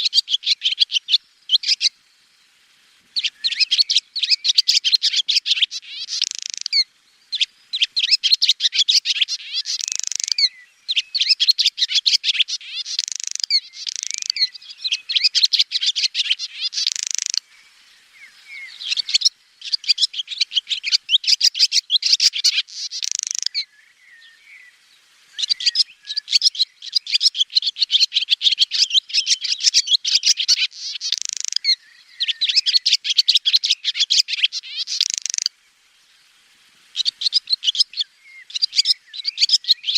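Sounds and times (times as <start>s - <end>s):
swallow twittering chirps: 0.0s - 2.6s, 3.2s - 39.9s.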